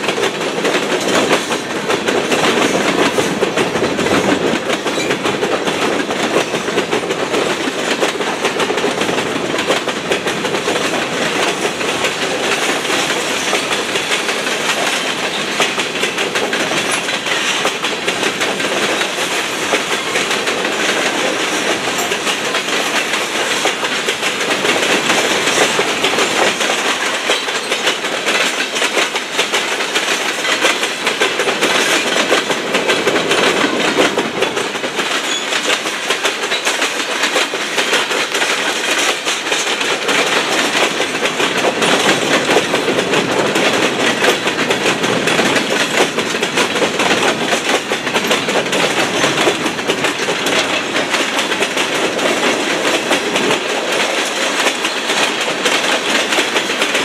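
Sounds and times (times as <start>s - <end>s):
train wheels on rail clickety-clack: 0.0s - 57.0s.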